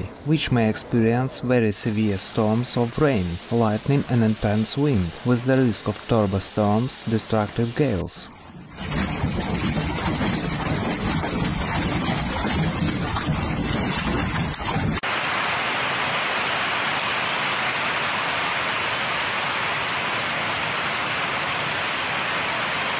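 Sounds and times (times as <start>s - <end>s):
heavy rain: 0.0s - 8.0s, 8.8s - 22.9s
rushing floodwater: 0.0s - 8.2s, 8.8s - 22.9s
low storm noise: 0.0s - 22.9s.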